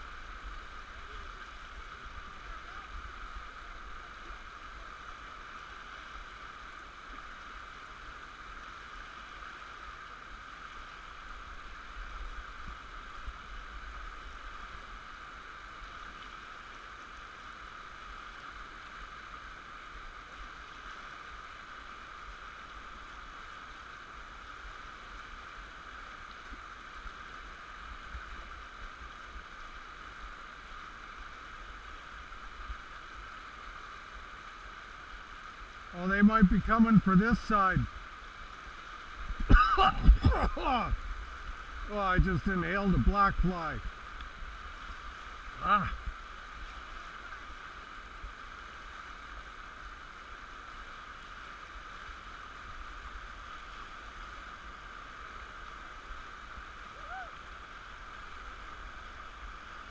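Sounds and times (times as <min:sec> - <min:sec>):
rushing whitewater: 0:00.0 - 0:59.9.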